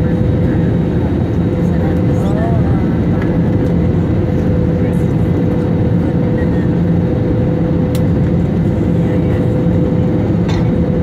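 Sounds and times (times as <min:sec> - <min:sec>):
airliner cabin engine roar: 0:00.0 - 0:11.0.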